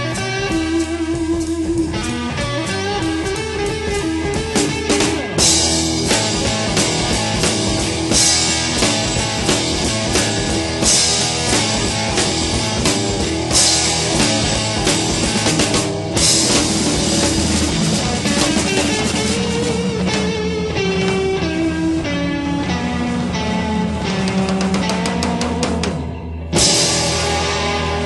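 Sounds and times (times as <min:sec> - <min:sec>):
bass guitar: 0:00.0 - 0:28.0
drum kit: 0:00.0 - 0:28.0
electric guitar: 0:00.0 - 0:28.0.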